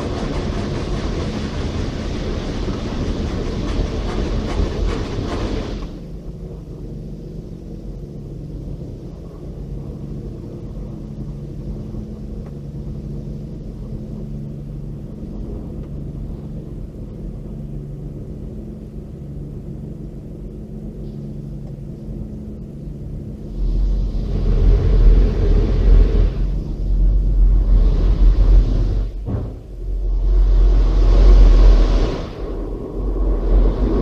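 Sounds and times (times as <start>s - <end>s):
car wash hum and rumble: 0.0s - 34.0s.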